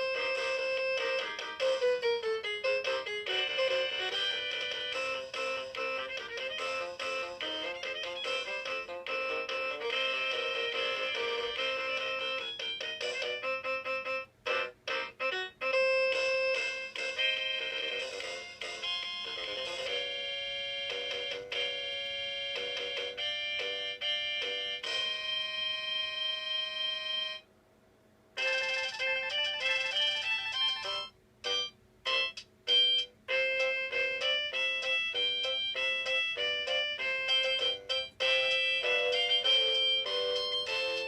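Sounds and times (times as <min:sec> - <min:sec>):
toy keyboard electronic melody: 0:00.0 - 0:27.4, 0:28.4 - 0:41.0.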